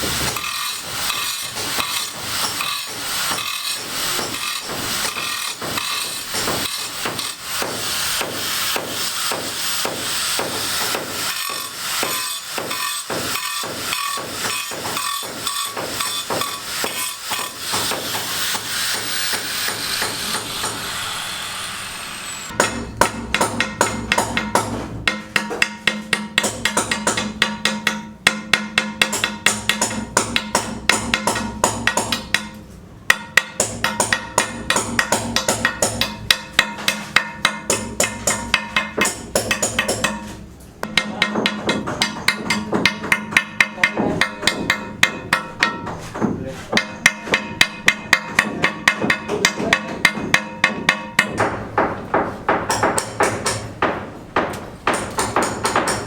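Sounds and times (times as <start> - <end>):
rapid sharp knocks: 0.0 - 21.0, 22.5 - 56.0.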